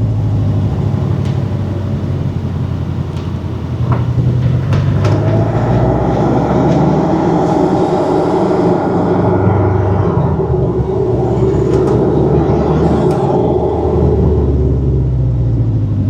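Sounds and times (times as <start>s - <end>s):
car engine running: 0.0s - 16.0s
turbo intake sound: 0.0s - 16.0s.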